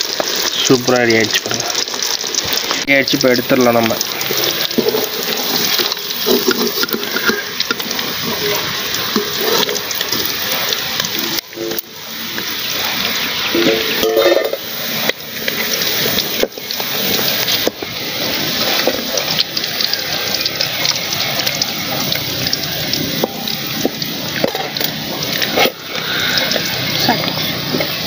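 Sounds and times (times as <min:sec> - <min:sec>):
fish sizzling in hot oil: 0:00.0 - 0:28.0.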